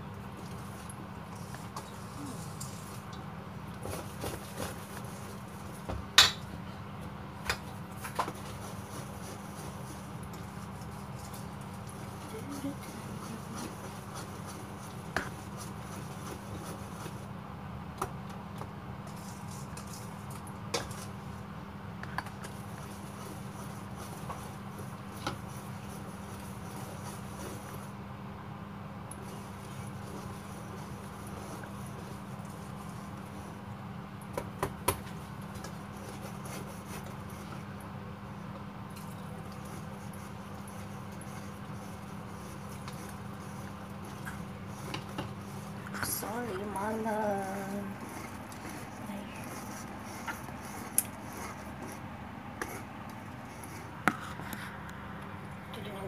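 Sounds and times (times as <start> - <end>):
batter being stirred: 0.0 - 28.1, 28.9 - 56.0
steady low hum: 0.0 - 56.0.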